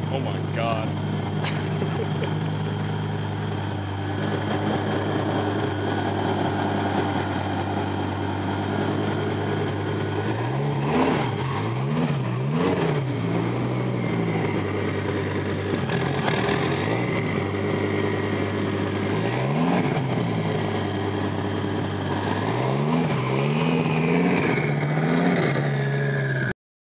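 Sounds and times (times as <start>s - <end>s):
car engine idling and revving: 0.0s - 26.5s.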